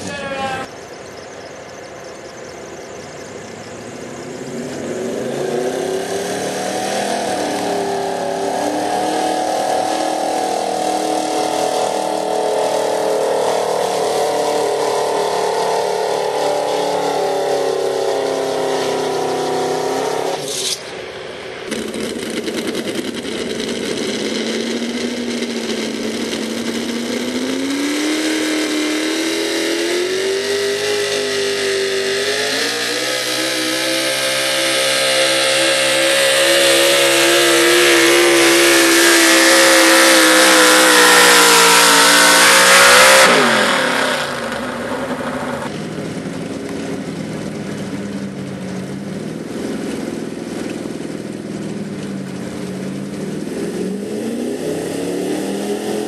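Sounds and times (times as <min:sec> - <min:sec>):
pickup truck engines revving: 0:00.0 - 0:56.0.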